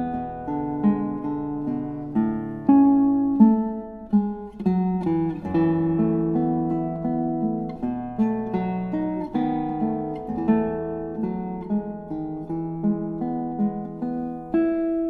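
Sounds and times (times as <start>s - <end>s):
acoustic guitar arpeggios: 0.0s - 15.0s.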